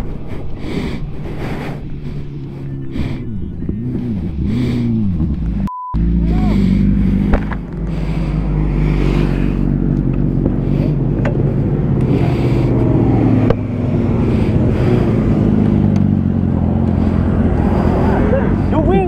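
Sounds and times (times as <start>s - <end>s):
motorcycle engine idling: 0.1s - 19.0s.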